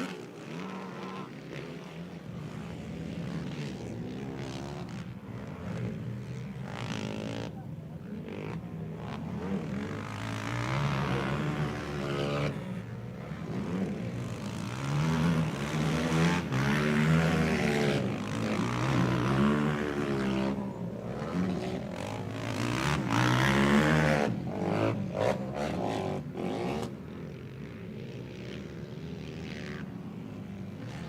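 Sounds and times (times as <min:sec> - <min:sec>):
quad bike engines revving: 0:00.0 - 0:31.0.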